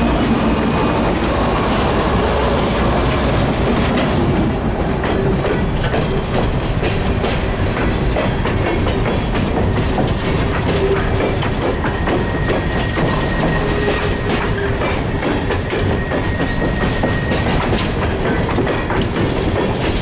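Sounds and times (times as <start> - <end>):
freight train rumbling past: 0.0 - 20.0
wheels clicking over rail joints: 0.0 - 20.0.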